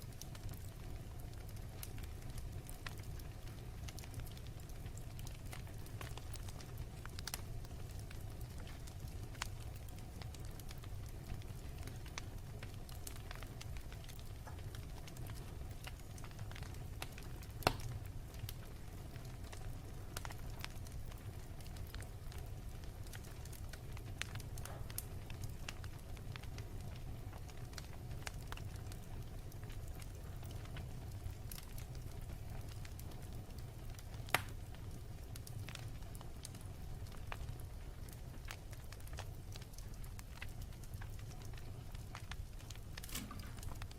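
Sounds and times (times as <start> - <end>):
fire crackles and pops: 0.0 - 43.9
wood fire burning: 0.0 - 43.9.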